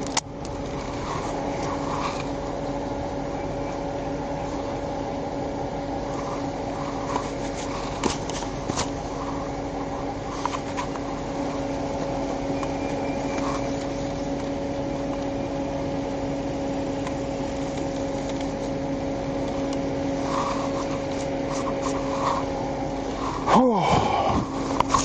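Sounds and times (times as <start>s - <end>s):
car cabin hum: 0.0s - 25.0s.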